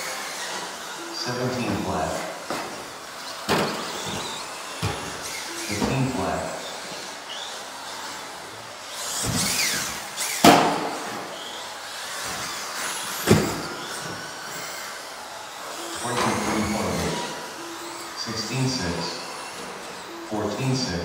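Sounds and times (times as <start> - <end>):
electric motor whine: 0.0 - 21.0.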